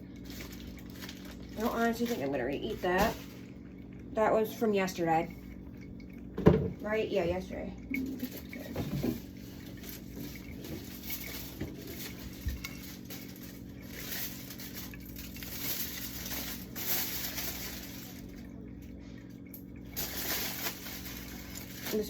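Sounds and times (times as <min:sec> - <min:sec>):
water running and splashing: 0:00.0 - 0:22.0.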